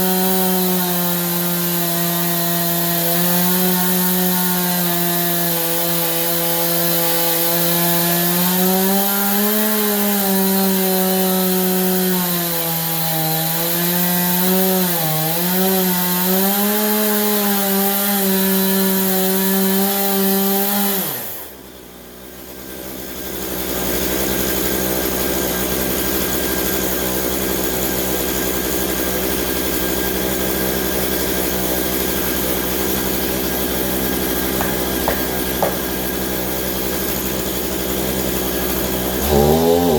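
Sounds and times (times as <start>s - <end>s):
chainsaw ripping through log: 0.0s - 21.7s, 22.5s - 39.9s.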